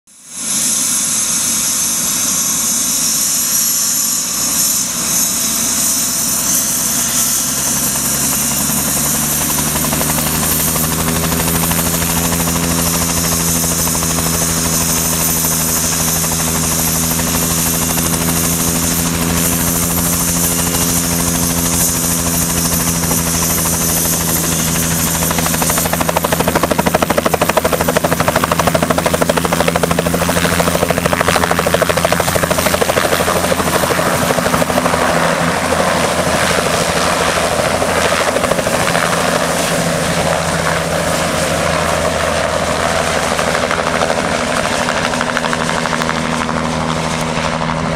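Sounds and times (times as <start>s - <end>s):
helicopter rotor hum and chop: 0.1s - 47.9s
helicopter turbine whine: 0.1s - 47.9s.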